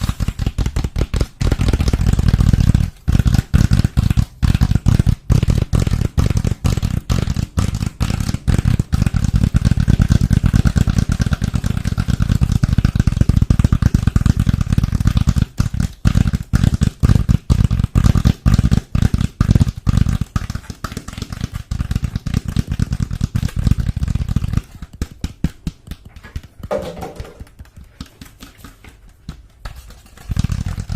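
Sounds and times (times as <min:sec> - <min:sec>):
fast tapping on a surface: 0:00.0 - 0:30.9.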